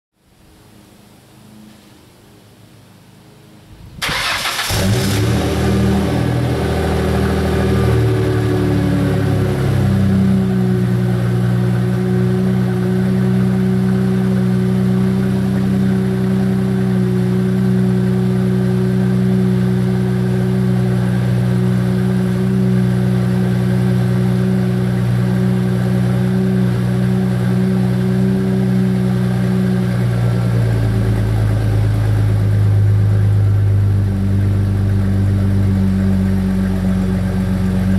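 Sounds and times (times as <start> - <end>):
car engine idling fast: 4.0 - 37.9.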